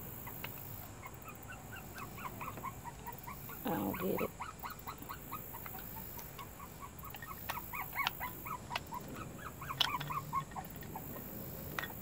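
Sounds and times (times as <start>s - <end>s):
puppy whimpering: 1.0s - 12.0s.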